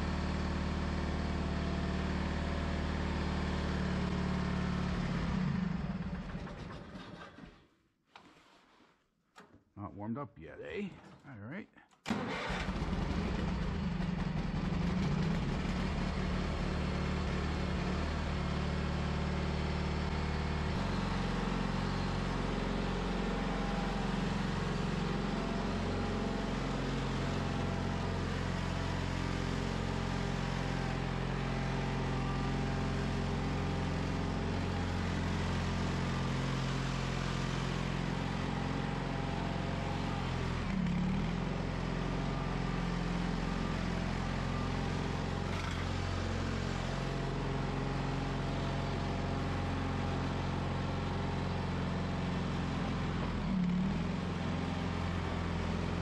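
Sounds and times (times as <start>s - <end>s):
garden tractor engine running: 0.0s - 7.6s, 12.1s - 56.0s
plow blade pushing snow: 0.0s - 7.6s, 12.1s - 56.0s.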